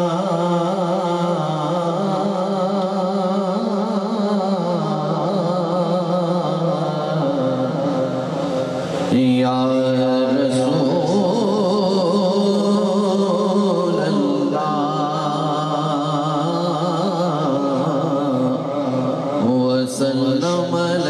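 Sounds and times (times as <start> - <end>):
man chanting: 0.0 - 21.0.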